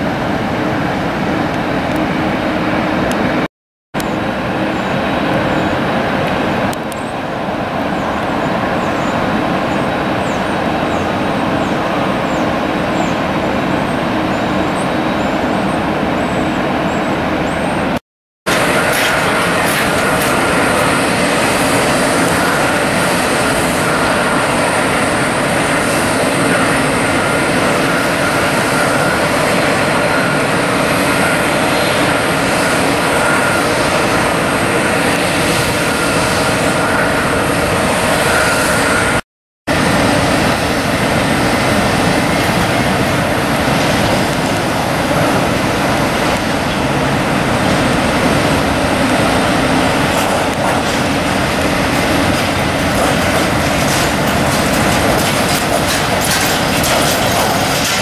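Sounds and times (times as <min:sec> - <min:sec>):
jet engines roaring and whining: 0:00.0 - 0:58.0.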